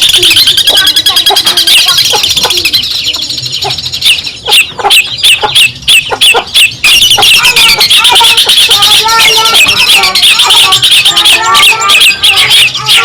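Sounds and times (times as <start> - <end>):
bird giving sharp calls: 0.0 - 13.0
bird singing chattering notes: 0.0 - 13.0.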